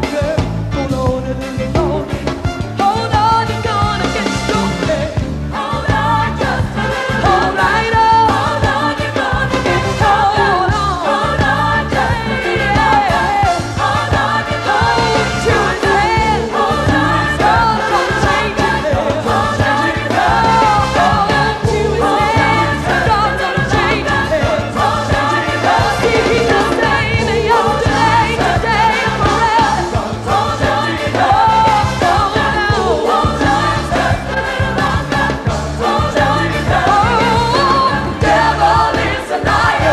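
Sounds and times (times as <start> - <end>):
band with bass and drums: 0.0 - 39.9
choir singing: 2.8 - 39.9.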